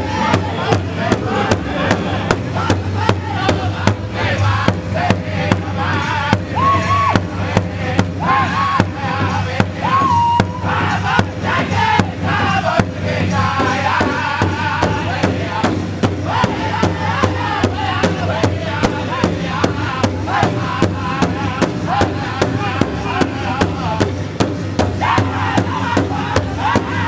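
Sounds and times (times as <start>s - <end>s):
large drum beating: 0.0s - 27.0s
men singing together: 0.0s - 27.0s.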